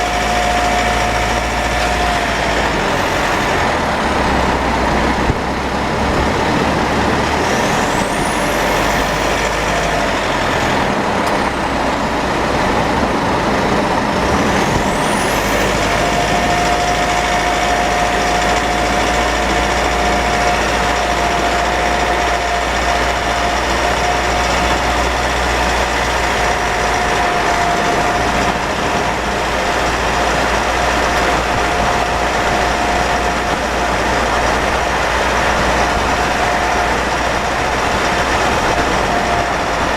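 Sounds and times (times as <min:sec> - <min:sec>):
diesel engine rumble: 0:00.0 - 0:39.9
high-pitched drivetrain whine: 0:00.0 - 0:39.9.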